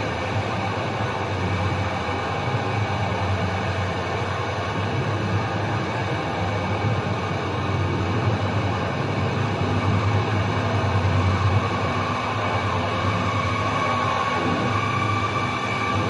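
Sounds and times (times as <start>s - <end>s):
dark ambient noise music: 0.0s - 16.0s.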